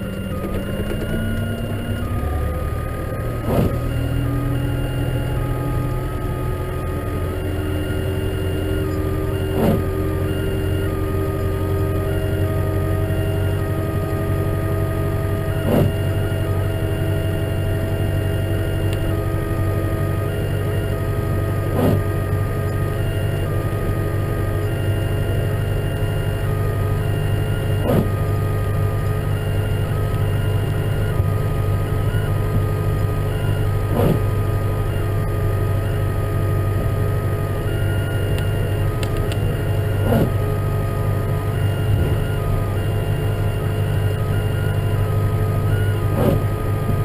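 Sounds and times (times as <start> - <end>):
tractor engine droning with whine: 0.0 - 47.0.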